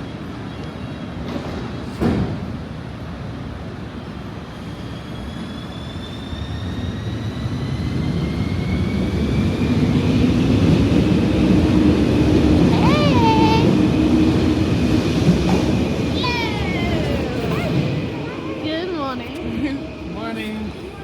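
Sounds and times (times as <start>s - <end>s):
rail vehicle rumble: 0.0s - 21.0s.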